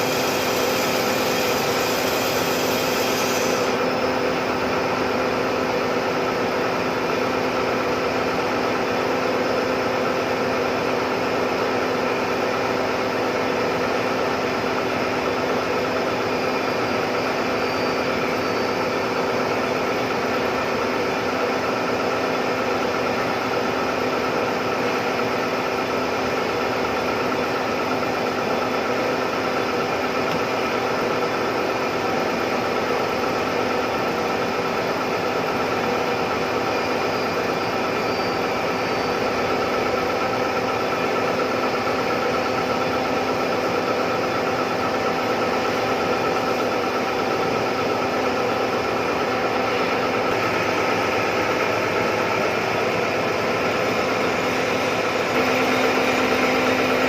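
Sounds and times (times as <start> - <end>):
milling machine hum: 0.0 - 57.0.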